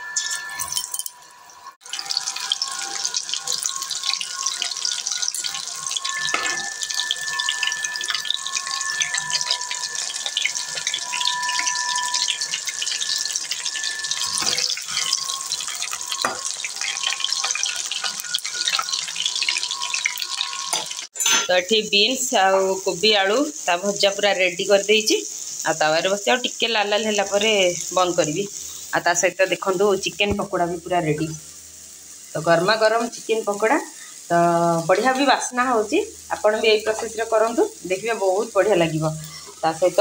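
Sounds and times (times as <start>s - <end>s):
deep-frying oil sizzling and popping: 0.0s - 40.0s.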